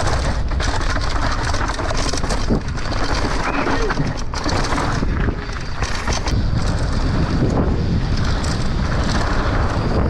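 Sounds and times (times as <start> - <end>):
bike rattling: 0.0 - 10.0
tyres rumbling on dirt: 0.0 - 10.0
wind rushing over microphone: 0.0 - 10.0.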